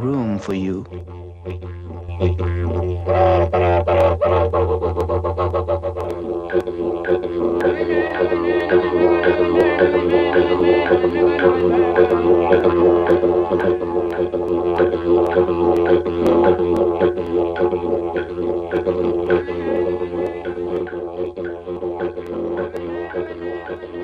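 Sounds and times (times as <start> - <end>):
didgeridoo drone: 0.0 - 24.0
sharp rhythmic taps: 1.0 - 24.0.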